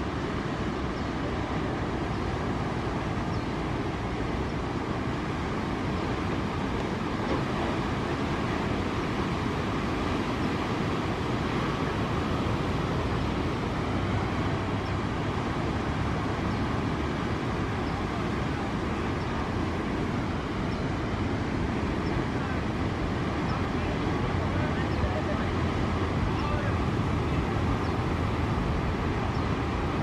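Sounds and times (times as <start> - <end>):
steady outdoor roar: 0.0 - 30.0.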